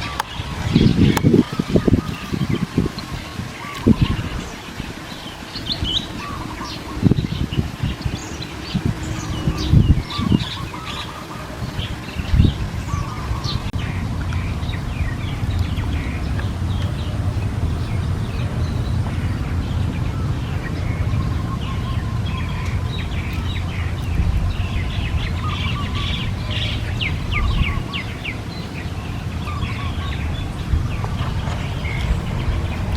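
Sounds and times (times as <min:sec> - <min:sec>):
small birds chirping: 0:00.0 - 0:32.9
low rumble: 0:03.9 - 0:32.9.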